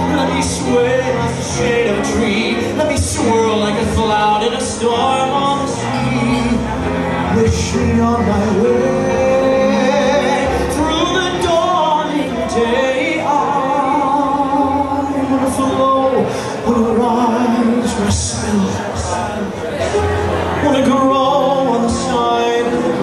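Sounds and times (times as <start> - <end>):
man singing a slow ballad: 0.0 - 23.0
musical accompaniment: 0.0 - 23.0.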